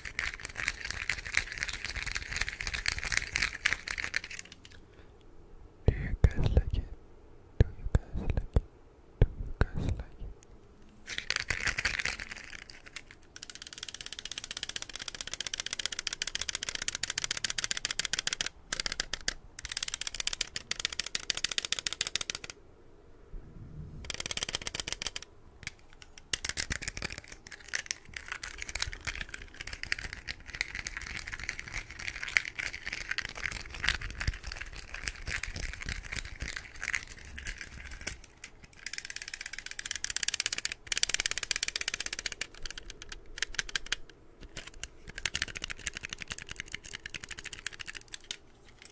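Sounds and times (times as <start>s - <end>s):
toy car parts rattling: 0.0s - 4.8s, 11.1s - 22.5s, 24.1s - 48.9s.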